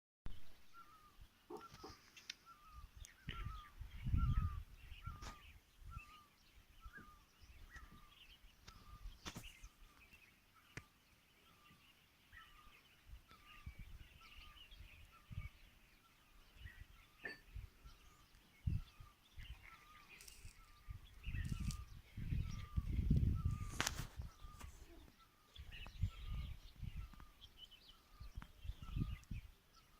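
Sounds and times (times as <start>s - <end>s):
faint high bird chirps: 0.3s - 29.9s.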